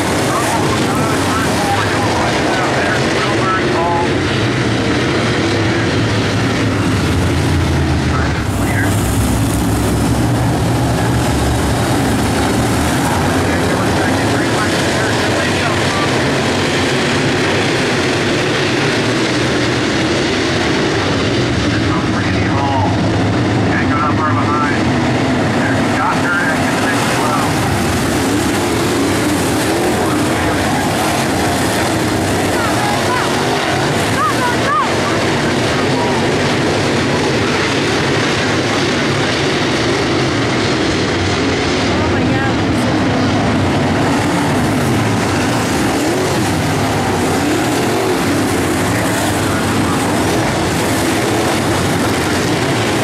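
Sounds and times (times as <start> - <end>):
race car engines roaring: 0.0 - 53.0.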